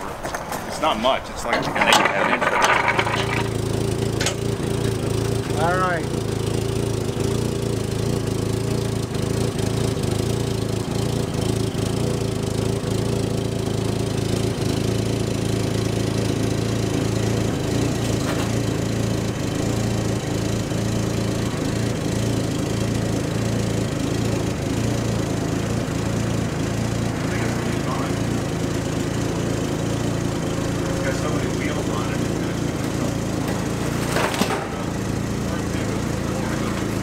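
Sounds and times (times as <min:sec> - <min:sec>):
tug engine running steadily: 0:00.0 - 0:37.0.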